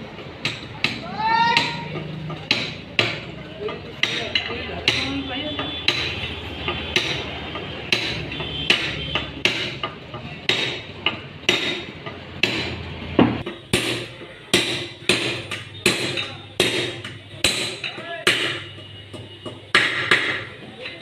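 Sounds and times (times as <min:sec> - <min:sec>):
hammer striking metal: 0:00.4 - 0:21.0.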